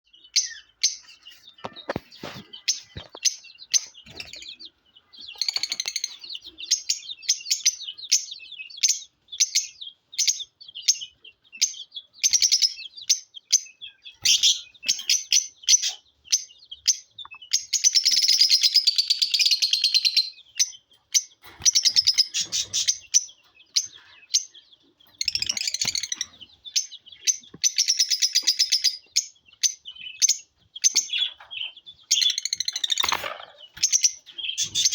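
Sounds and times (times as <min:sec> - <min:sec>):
lovebirds chirping: 0:00.0 - 0:34.9
shrill bird chattering: 0:01.8 - 0:34.9.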